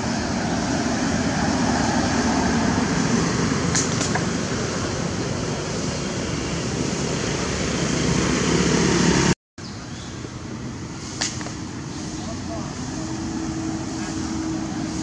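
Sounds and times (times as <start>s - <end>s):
loud rushing noise: 0.0s - 9.4s, 10.5s - 15.0s.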